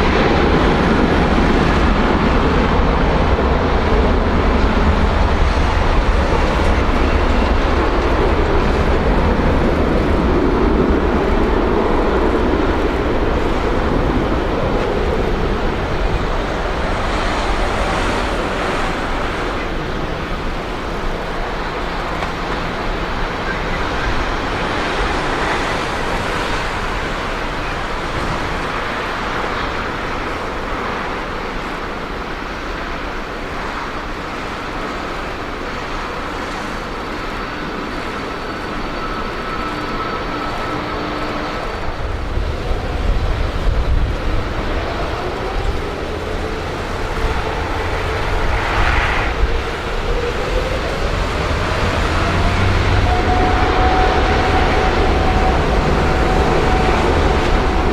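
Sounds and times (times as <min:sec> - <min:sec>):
jet engines roaring: 0:00.0 - 0:57.9.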